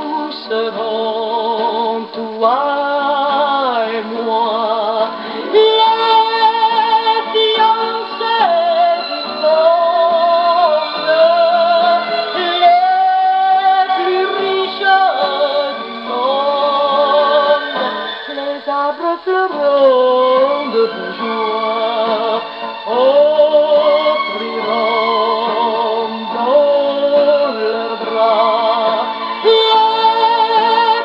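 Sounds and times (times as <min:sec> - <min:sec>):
gramophone record music: 0:00.0 - 0:31.0.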